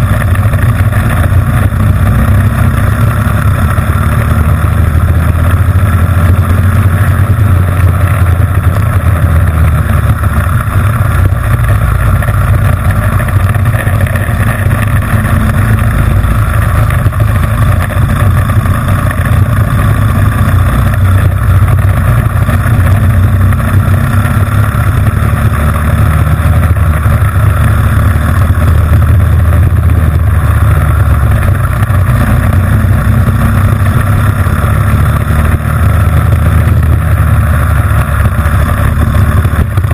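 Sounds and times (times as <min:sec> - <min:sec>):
engine droning under load: 0:00.0 - 0:39.9.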